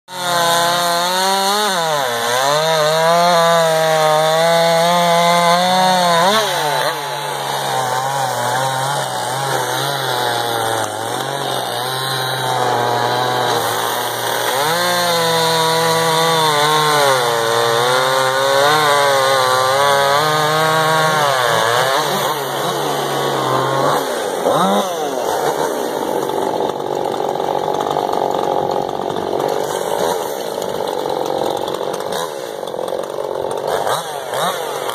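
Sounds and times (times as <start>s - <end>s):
chainsaws cutting logs: 0.1s - 34.9s.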